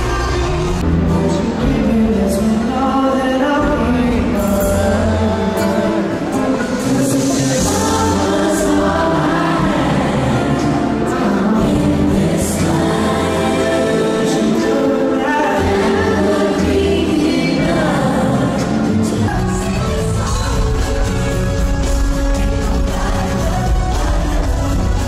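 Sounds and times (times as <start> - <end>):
crowd singing along: 0.0 - 25.0
live pop band with singer: 0.0 - 25.0.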